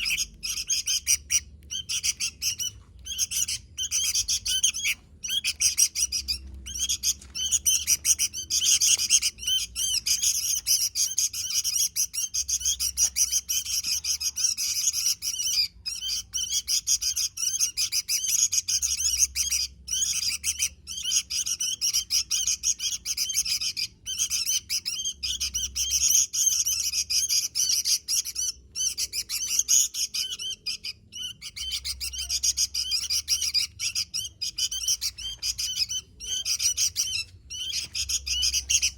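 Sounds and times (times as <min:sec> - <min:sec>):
bulbul singing rapid high chirps: 0:00.0 - 0:38.9.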